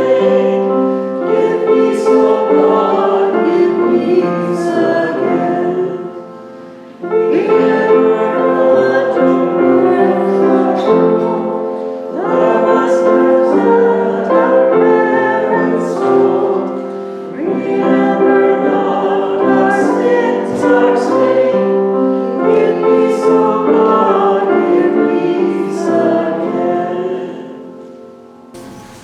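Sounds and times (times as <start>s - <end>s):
church choir singing a hymn: 0.0s - 29.0s.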